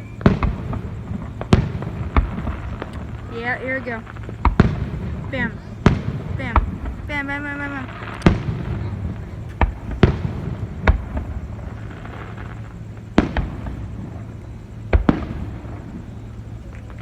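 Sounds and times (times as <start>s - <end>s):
fireworks bangs: 0.0s - 17.0s
steady low rumble: 0.0s - 17.0s.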